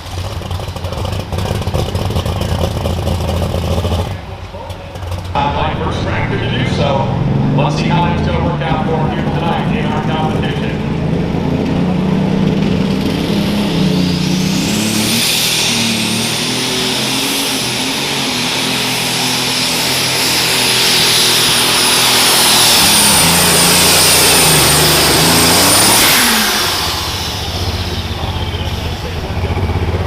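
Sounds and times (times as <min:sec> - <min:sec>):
tractor engine running hard: 0:00.0 - 0:30.0
high thin turbo whine: 0:03.2 - 0:30.0.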